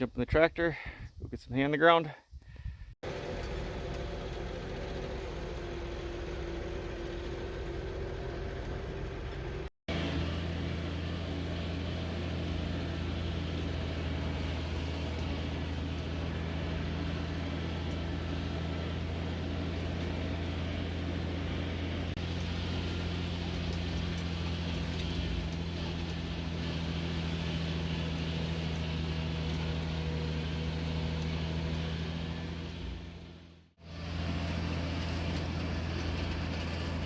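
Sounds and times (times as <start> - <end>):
tractor engine running: 2.6 - 37.0.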